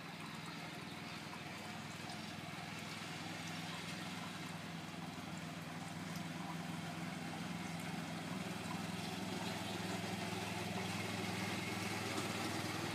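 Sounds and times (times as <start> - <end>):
utility vehicle engine running: 0.0 - 12.9.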